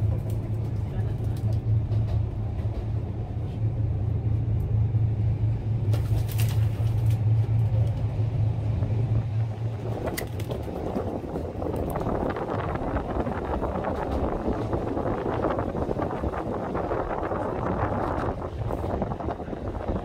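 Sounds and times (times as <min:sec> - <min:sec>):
rushing wind: 0:00.0 - 0:20.0
tram motor hum and rumble: 0:00.0 - 0:20.0.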